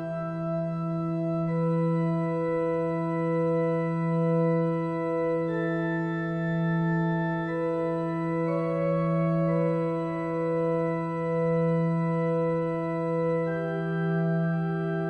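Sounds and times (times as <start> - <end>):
organ-like drone music: 0.0 - 15.0.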